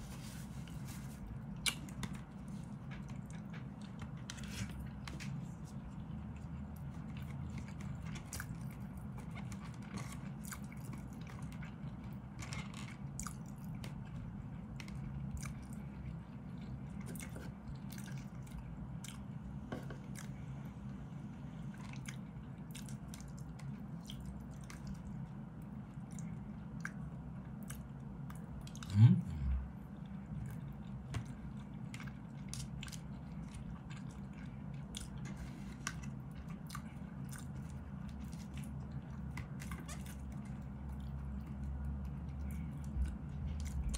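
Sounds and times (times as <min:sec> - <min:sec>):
person chewing: 0:00.0 - 0:20.4, 0:21.7 - 0:25.3, 0:25.9 - 0:43.9
steady low hum: 0:00.0 - 0:43.9.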